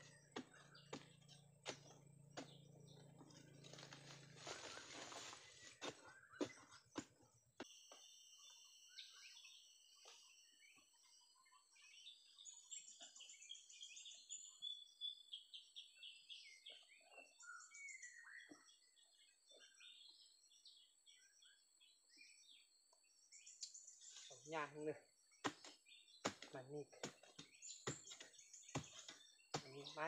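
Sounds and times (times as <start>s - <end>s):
small birds chirping and trilling: 0.0s - 30.0s.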